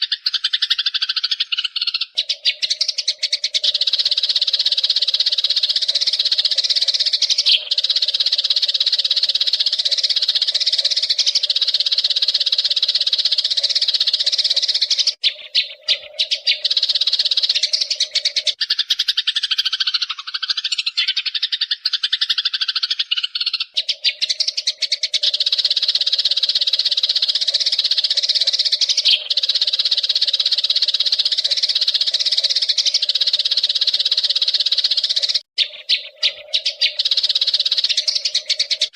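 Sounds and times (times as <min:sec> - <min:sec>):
sparrows chattering: 0:00.0 - 0:38.9.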